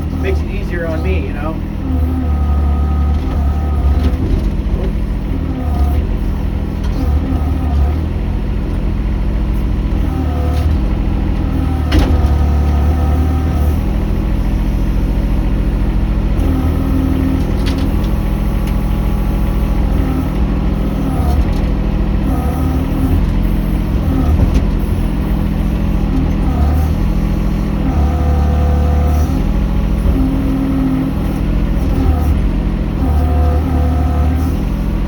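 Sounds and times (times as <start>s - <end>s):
engine droning: 0.0s - 35.0s.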